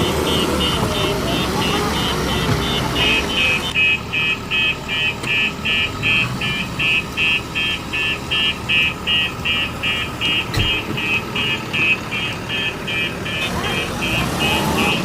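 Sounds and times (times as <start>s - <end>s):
low engine running: 0.0s - 15.0s
reversing alarm beeping: 0.0s - 15.0s.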